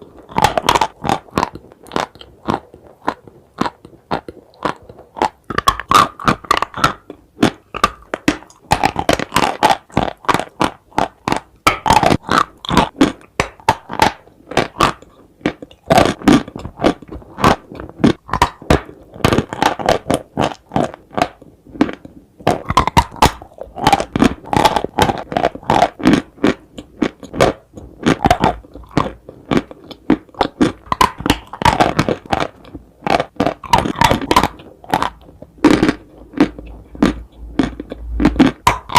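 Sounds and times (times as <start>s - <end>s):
crisp chewing crunches: 0.0s - 38.9s.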